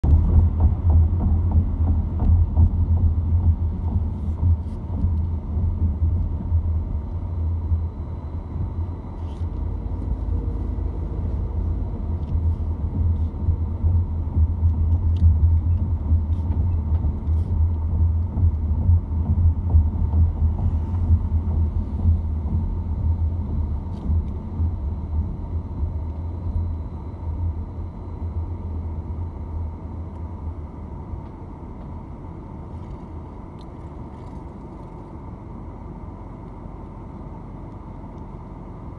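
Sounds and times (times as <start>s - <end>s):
car engine: 0.0s - 38.9s
road noise: 0.0s - 38.9s.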